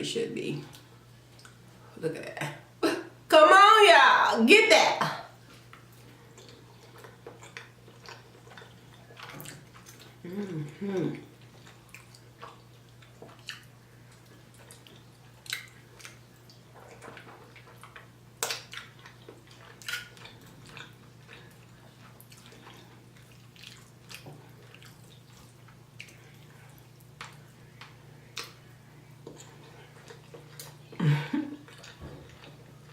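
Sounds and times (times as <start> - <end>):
person chewing food: 0.7 - 1.8, 5.4 - 32.9.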